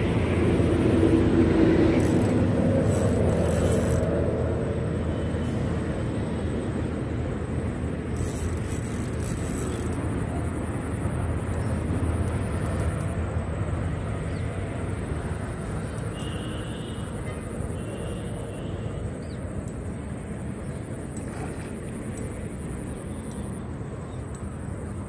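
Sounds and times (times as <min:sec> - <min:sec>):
low rumble of outdoor ambience: 0:00.0 - 0:25.0.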